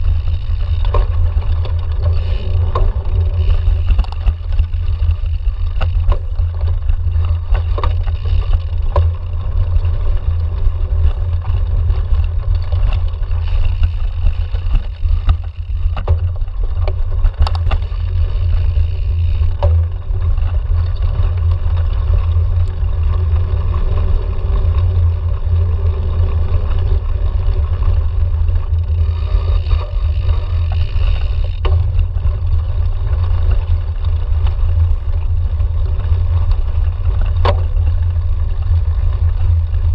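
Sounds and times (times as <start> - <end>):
bike knocking and rattling over bumps: 0.0 - 39.9
wind rumble on camera: 0.0 - 39.9.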